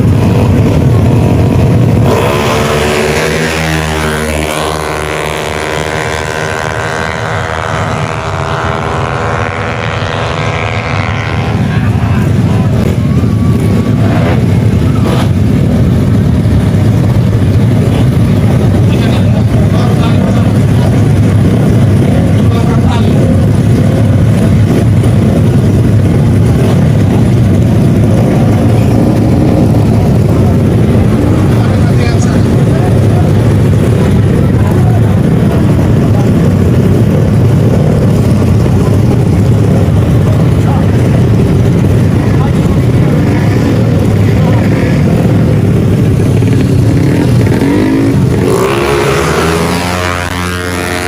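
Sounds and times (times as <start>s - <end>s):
scooter engine running loudly: 0.0s - 51.0s.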